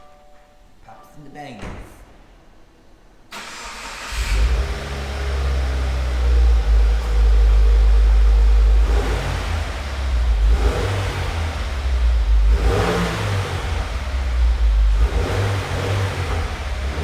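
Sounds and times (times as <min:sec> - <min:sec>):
car engine revving: 0:03.4 - 0:17.0.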